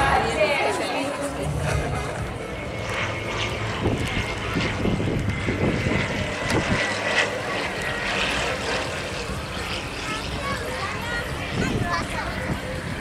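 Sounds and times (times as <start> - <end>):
propeller aircraft engines droning: 0.0 - 13.0.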